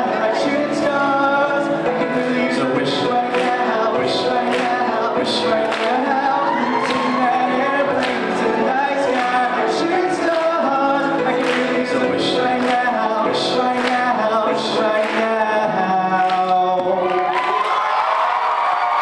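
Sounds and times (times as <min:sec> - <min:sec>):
voices singing in a hall: 0:00.0 - 0:19.0.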